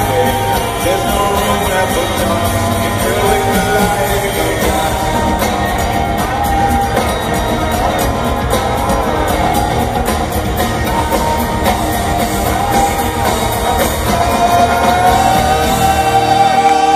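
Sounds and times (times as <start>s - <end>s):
guitars: 0.0s - 16.9s
live band playing: 0.0s - 16.9s
steady drum beat: 0.0s - 16.9s.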